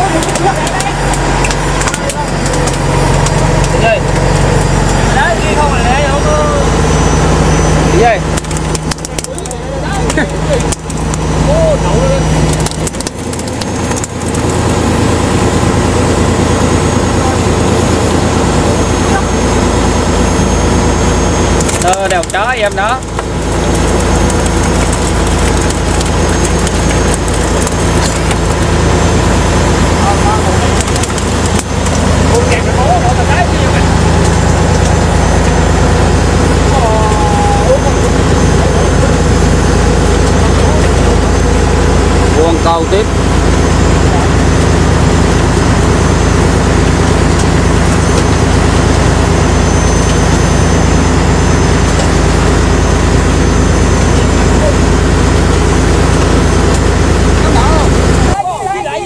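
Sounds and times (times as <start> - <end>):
boat diesel engine droning: 0.0 - 59.0.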